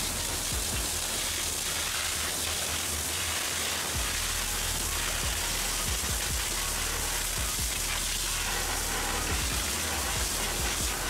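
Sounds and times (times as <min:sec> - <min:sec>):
pressure washer spray hissing: 0:00.0 - 0:11.0
water splashing off metal: 0:00.0 - 0:11.0.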